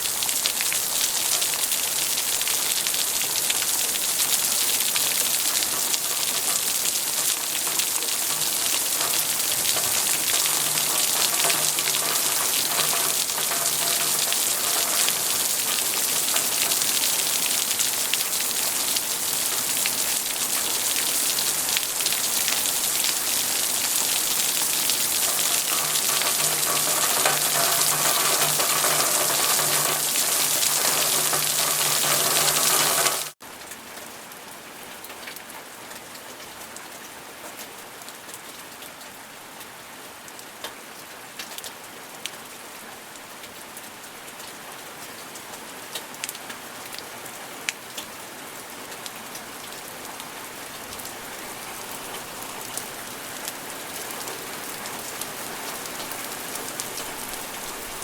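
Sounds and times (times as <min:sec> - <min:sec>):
raindrops pattering: 0:00.0 - 0:34.2, 0:43.4 - 0:58.0
heavy rain downpour: 0:00.0 - 0:58.0.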